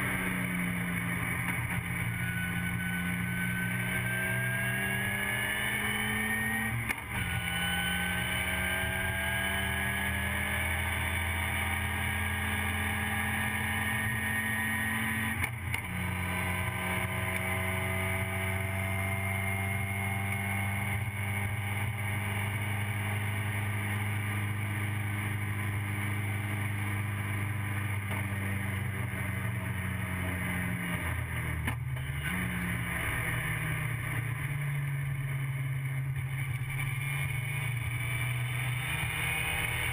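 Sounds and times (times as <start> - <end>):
racing engine at full throttle: 0.0 - 39.9.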